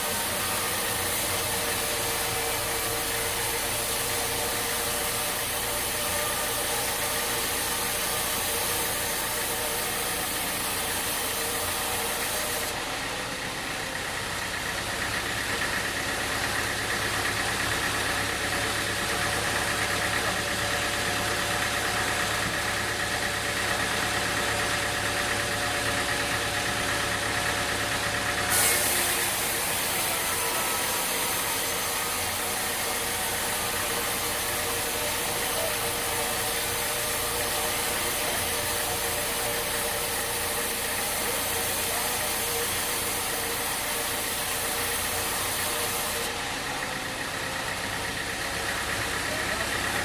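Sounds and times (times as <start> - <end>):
sawmill machinery hum: 0.0 - 50.0.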